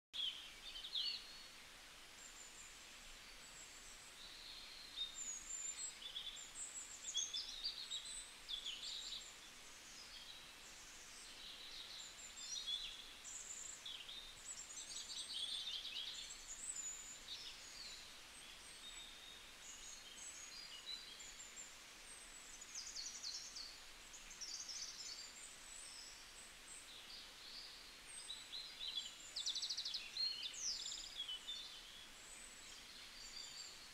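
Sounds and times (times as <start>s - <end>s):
low background hiss: 0.2s - 33.9s
small birds chirping: 0.2s - 33.9s.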